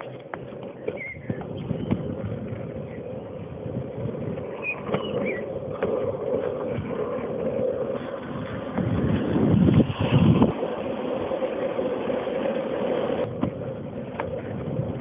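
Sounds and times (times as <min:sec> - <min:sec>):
longboard wheels rolling on asphalt: 0:00.0 - 0:15.0.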